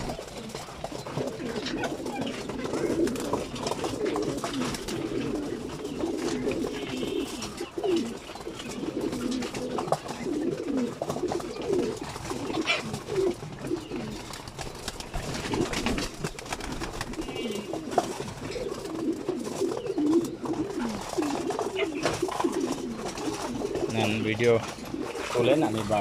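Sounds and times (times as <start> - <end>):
pigeons cooing: 0.0 - 26.0
wing flutters and clicks: 0.0 - 26.0.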